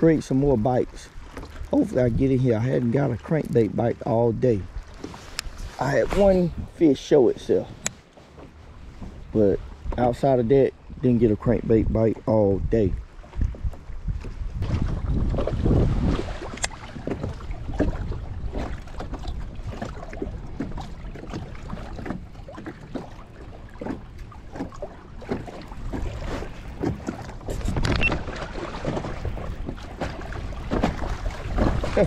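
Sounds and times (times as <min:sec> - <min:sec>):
wind buffeting microphone: 0:00.0 - 0:08.0, 0:08.6 - 0:32.0
waves lapping against boat hull: 0:00.0 - 0:32.0.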